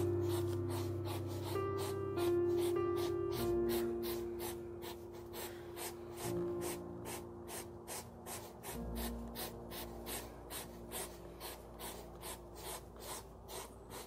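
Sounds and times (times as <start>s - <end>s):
hedgehog sniffing and snuffling: 0.0s - 14.0s
soft background music: 0.0s - 14.0s.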